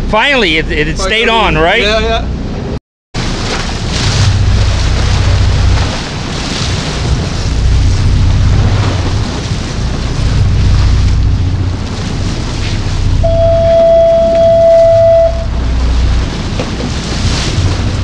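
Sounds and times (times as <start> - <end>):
strong wind buffeting microphone: 2.2 - 18.0.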